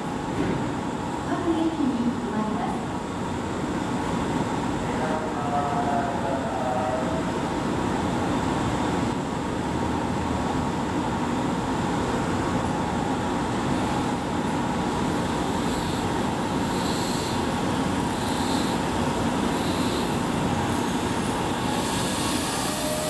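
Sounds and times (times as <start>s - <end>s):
electric train rumbling on rails: 0.0s - 23.0s.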